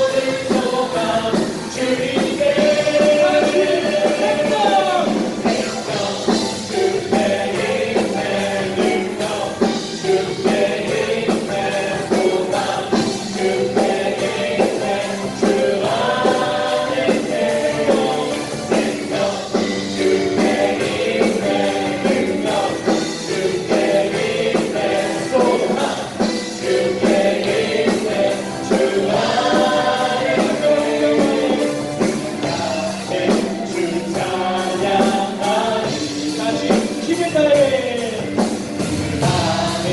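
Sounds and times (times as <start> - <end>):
band with steady drum beat: 0.0 - 39.9
several voices singing together: 0.0 - 39.9.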